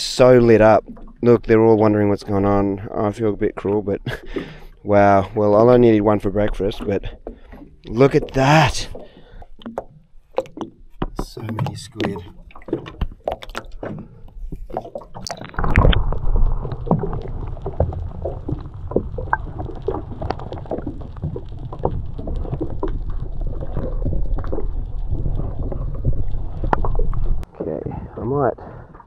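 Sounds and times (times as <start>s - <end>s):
underwater rumble with bubbling: 0.0s - 29.0s.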